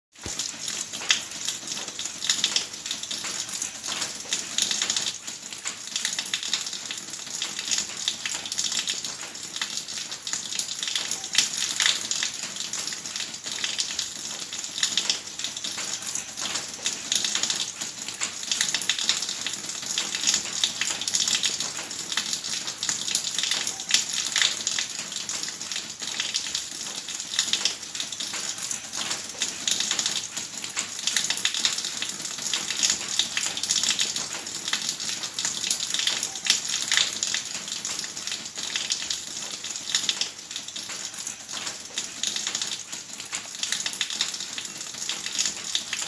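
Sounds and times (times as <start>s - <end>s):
water pouring and splashing: 0.1s - 46.0s.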